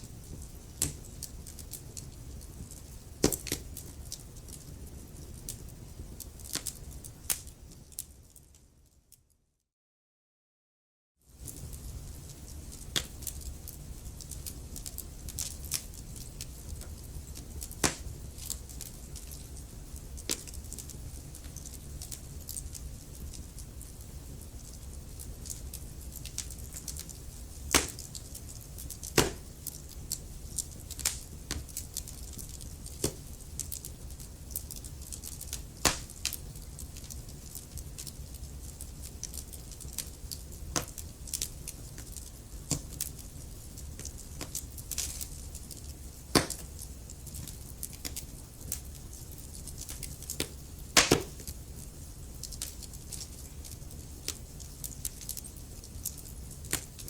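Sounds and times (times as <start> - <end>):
wood fire crackling: 0.0 - 9.2, 11.3 - 57.0.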